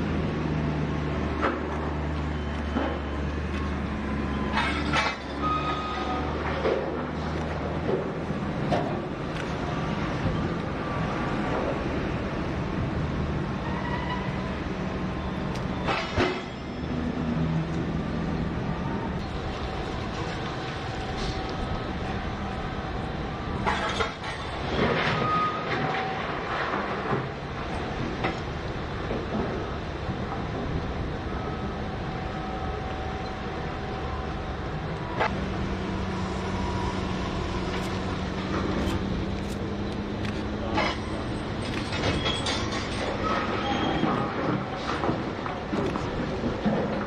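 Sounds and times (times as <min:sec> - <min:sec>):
heavy machinery low drone: 0:00.0 - 0:47.0.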